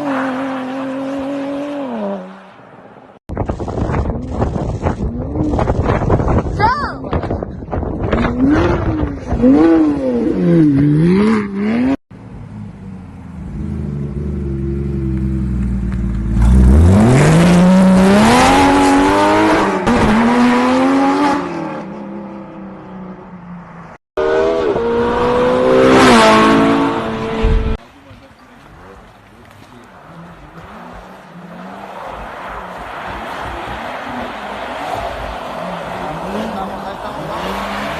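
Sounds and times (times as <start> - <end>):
car engines revving: 7.2 - 37.9.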